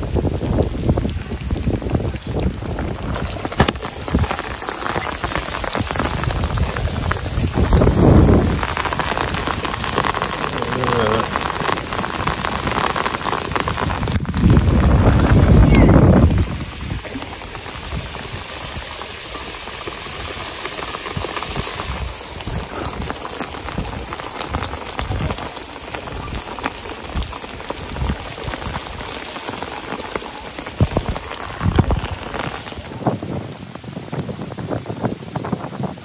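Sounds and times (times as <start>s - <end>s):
heavy rain hissing: 0.0s - 35.9s
raindrops hitting microphone: 0.0s - 36.0s.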